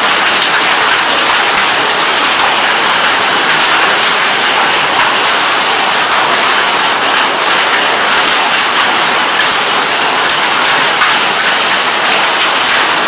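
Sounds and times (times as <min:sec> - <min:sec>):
hail and heavy rain: 0:00.0 - 0:13.0.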